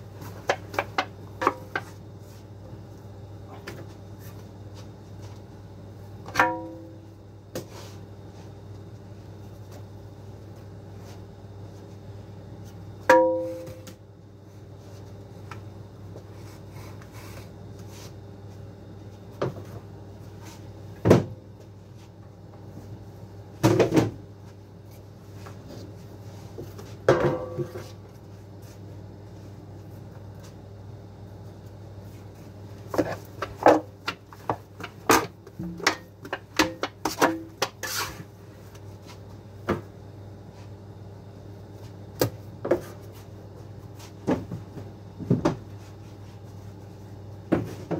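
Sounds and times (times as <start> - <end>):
low machinery hum: 0.0 - 47.9.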